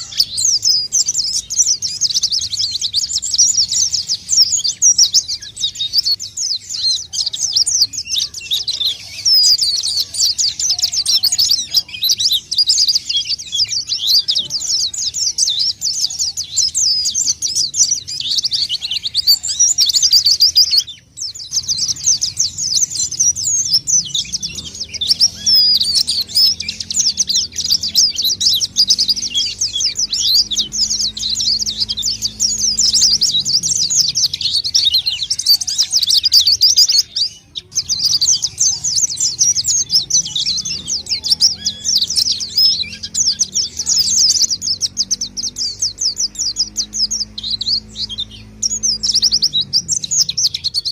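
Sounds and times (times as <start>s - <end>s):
bird high-pitched twittering: 0.0s - 50.9s.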